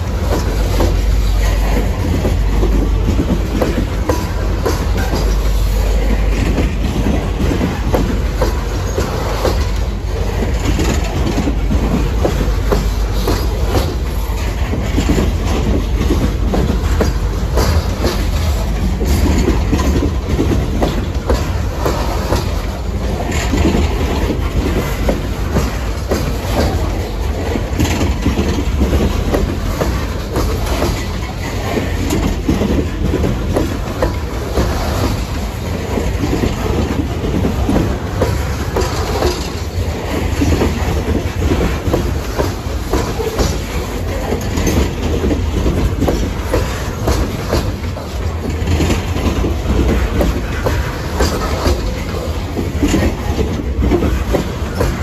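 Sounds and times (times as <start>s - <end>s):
freight train wheels clicking: 0.0s - 55.0s.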